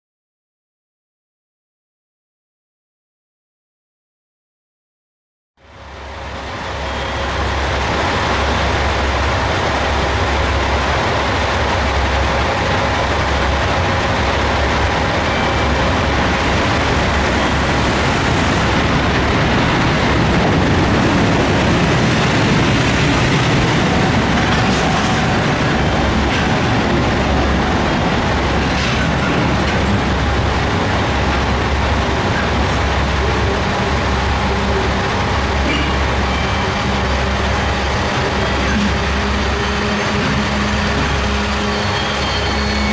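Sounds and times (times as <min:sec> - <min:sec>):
train rumble: 0:05.6 - 0:42.9.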